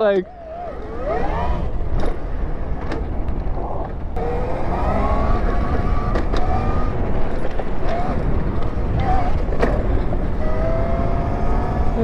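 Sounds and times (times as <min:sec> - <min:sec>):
wind rumble on microphone: 0:00.0 - 0:12.0
electric dirt bike motor whining: 0:00.3 - 0:03.0, 0:04.2 - 0:12.0.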